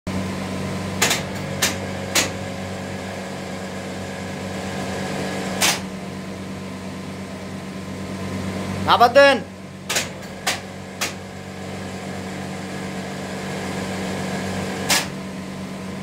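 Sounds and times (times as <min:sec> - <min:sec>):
winch machinery electrical hum: 0:00.1 - 0:16.0.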